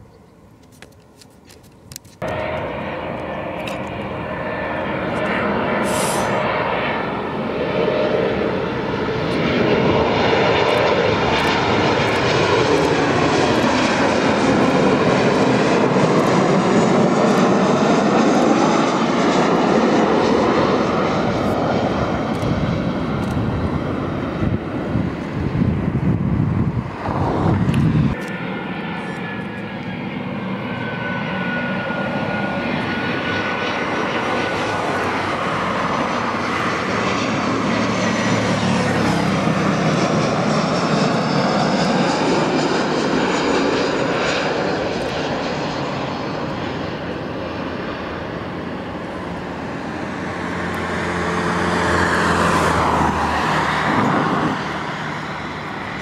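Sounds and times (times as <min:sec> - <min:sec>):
jet engine whine: 0:00.0 - 0:56.0
jet engines roaring: 0:00.0 - 0:56.0.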